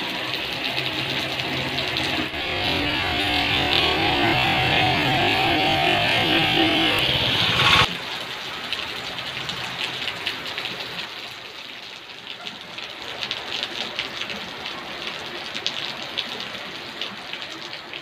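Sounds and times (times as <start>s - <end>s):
heavy rain on standing water: 0.0s - 6.6s, 7.8s - 18.0s.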